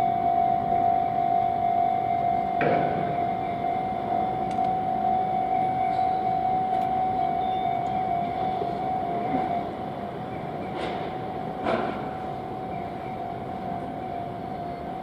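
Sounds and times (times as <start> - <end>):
level-crossing warning bell ringing: 0.0 - 15.0
low rumble of train: 0.0 - 15.0.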